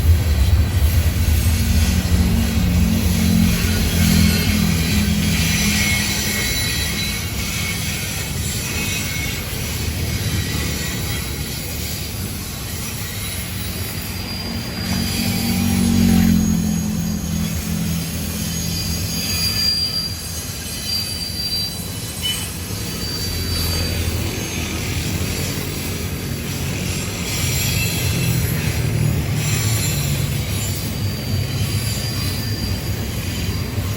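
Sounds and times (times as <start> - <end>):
freight train rumbling past: 0.0 - 33.9
high-pitched wheel squeal: 0.0 - 33.9.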